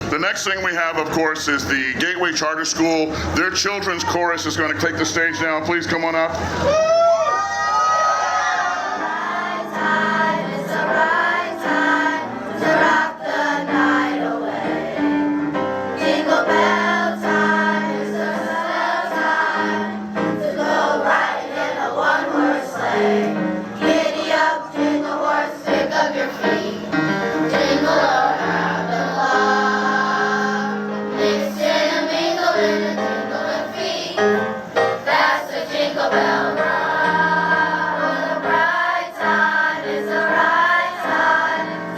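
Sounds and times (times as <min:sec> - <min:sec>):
children's chorus singing: 0:07.4 - 0:15.4, 0:16.0 - 0:41.9
musical accompaniment: 0:08.1 - 0:41.9.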